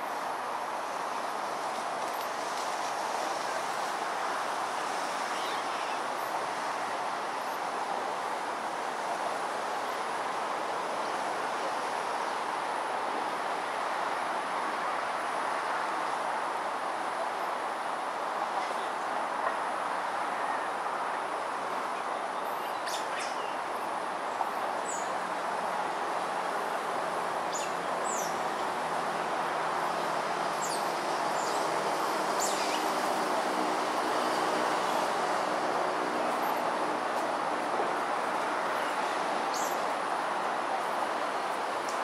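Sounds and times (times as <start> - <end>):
urban background noise: 0.0 - 42.0.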